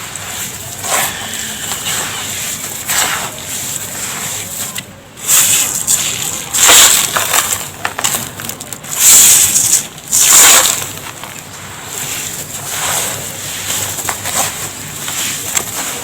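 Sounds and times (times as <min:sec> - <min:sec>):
dry dust pouring in a tub: 0:00.0 - 0:16.0.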